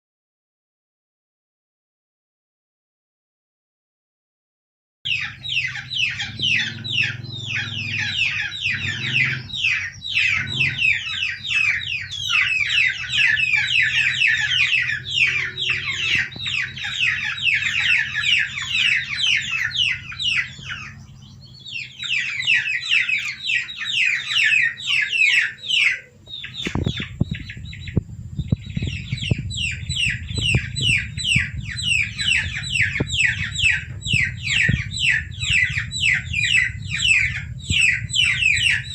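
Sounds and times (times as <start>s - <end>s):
low hum: 5.1s - 24.3s, 26.0s - 38.9s
baby chicks peeping: 5.1s - 38.9s.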